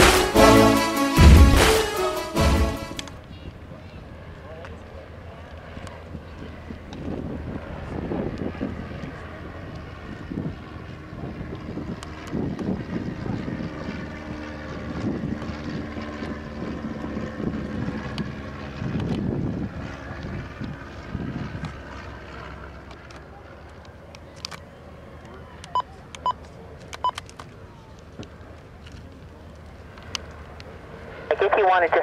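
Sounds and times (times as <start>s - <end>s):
propeller aircraft engine droning: 0.0s - 32.0s.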